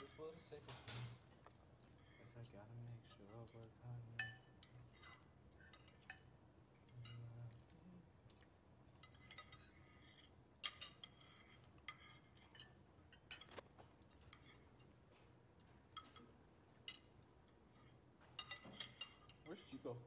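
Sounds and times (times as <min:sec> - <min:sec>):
metal cutlery clinking on plates: 0:00.0 - 0:20.0.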